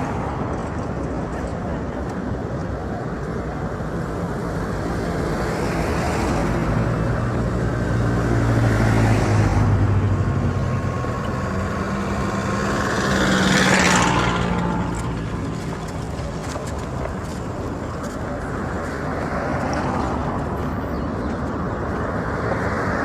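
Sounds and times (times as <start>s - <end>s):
vehicles driving past: 0.0s - 23.0s.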